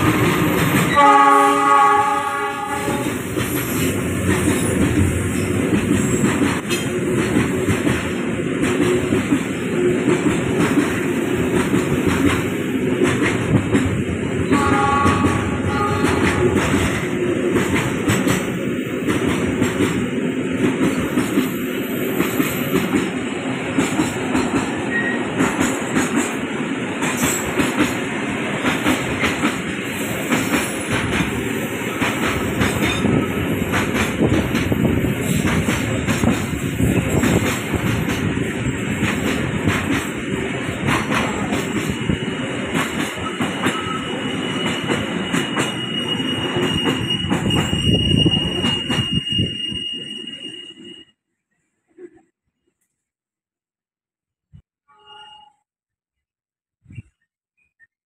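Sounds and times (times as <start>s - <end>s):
train wheels clacking on rails: 0.0s - 49.5s.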